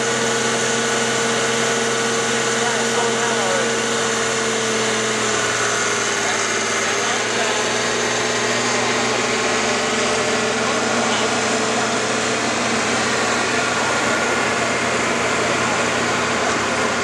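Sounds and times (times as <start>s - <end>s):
diesel tractor engines idling: 0.0s - 17.0s.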